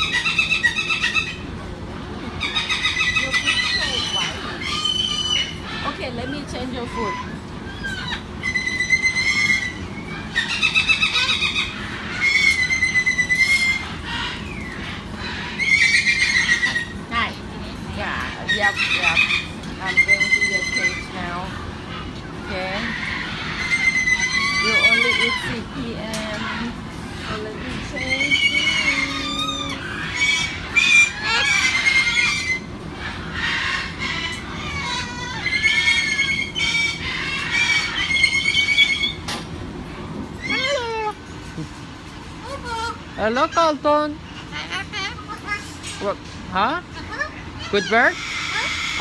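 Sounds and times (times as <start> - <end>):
cockatoo squealing calls: 0.0 - 1.6, 2.3 - 17.3, 17.9 - 39.4, 40.4 - 41.6, 42.4 - 46.2, 46.8 - 49.0.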